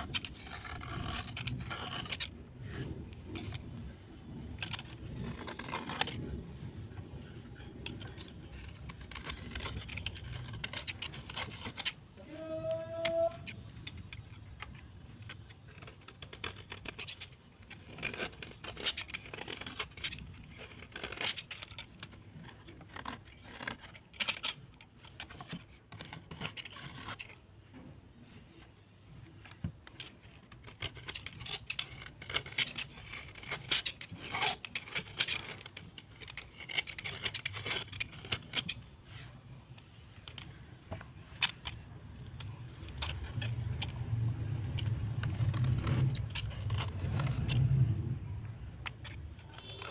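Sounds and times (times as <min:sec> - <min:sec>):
hard material scraping: 0:00.0 - 0:49.9.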